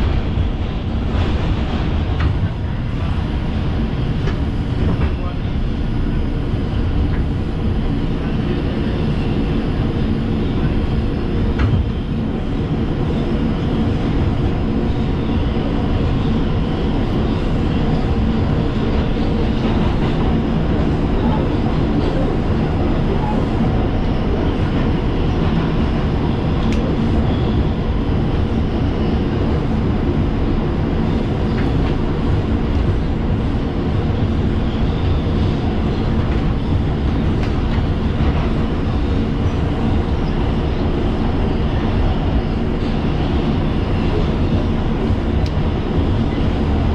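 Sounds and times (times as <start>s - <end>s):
wheels rumbling on rail: 0.0s - 46.9s.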